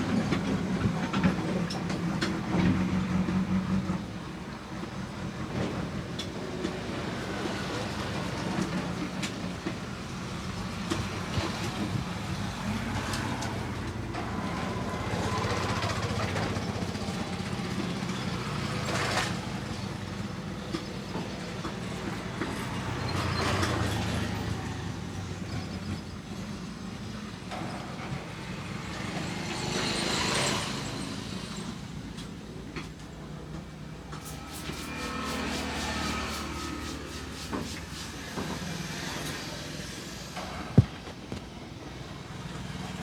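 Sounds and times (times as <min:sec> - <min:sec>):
low rumble of street traffic: 0:00.0 - 0:43.0.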